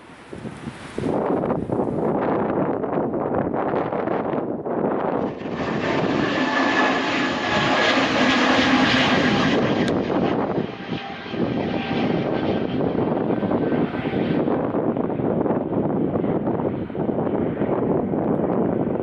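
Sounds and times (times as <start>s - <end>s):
airliner engines at takeoff: 0.0s - 19.0s.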